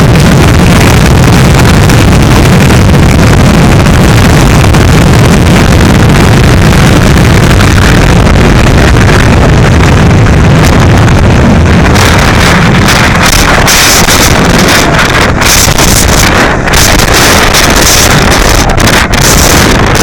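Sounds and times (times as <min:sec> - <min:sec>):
jet engines roaring at takeoff: 0:00.0 - 0:20.0
wind buffeting microphone: 0:00.0 - 0:20.0.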